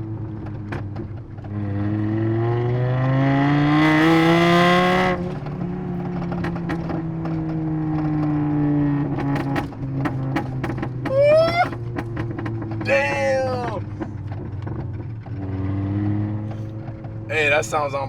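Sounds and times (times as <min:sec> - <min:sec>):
exhaust crackles and pops: 0:00.0 - 0:02.0, 0:05.1 - 0:18.0
car engine accelerating: 0:00.0 - 0:18.0.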